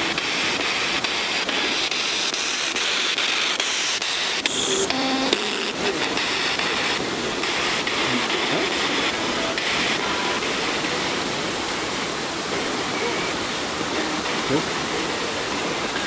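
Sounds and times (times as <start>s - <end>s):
bright hiss: 0.0s - 16.0s
waterfall rushing: 0.0s - 16.0s.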